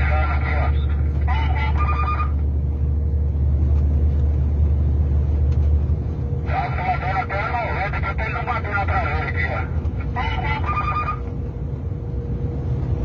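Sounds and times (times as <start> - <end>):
truck engine drone and road noise: 0.0 - 13.0.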